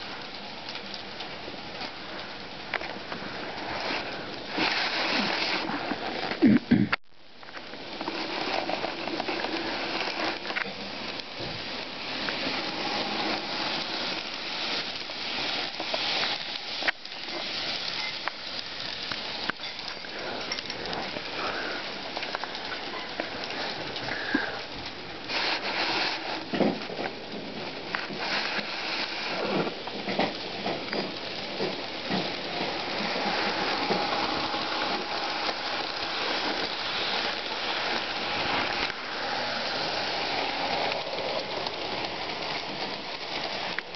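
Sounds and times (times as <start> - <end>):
model train running on track: 7.7 - 43.9.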